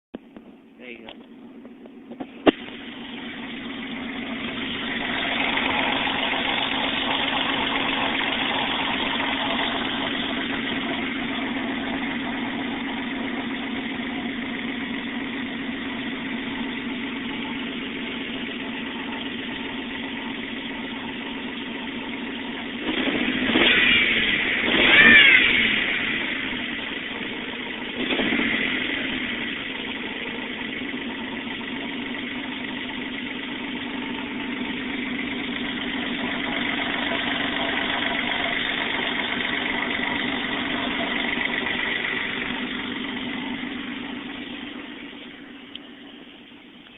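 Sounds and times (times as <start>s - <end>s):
car engine idling and revving: 0.2s - 46.9s.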